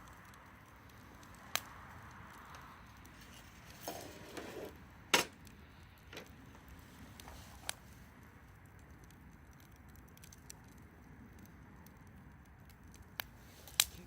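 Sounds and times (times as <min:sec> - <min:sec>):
wood fire burning and popping: 0:00.0 - 0:14.0.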